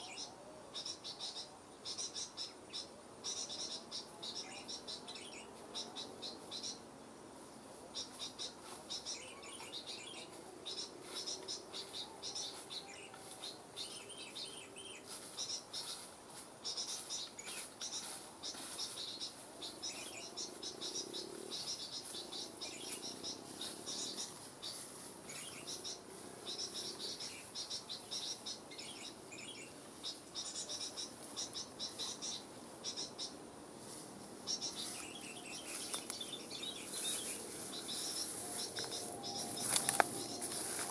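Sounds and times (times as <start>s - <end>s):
small birds chirping: 0.0s - 6.9s, 7.9s - 40.9s.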